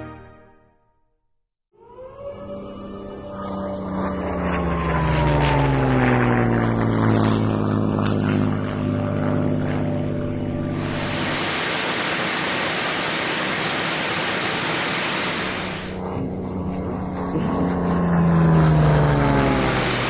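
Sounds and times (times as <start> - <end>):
propeller plane engine drone: 1.8 - 20.0
wind and engine noise in cockpit: 1.8 - 20.0.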